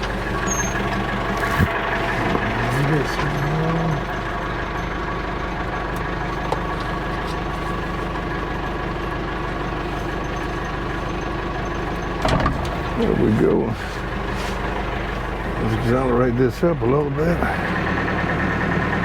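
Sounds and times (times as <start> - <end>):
backhoe engine idling: 0.0 - 19.0.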